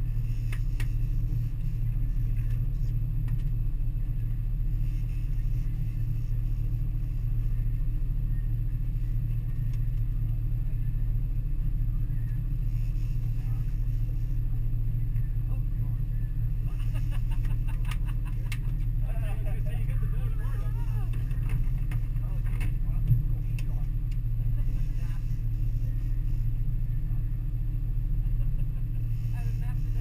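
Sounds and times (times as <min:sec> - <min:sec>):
outboard motors droning: 0:00.0 - 0:30.0.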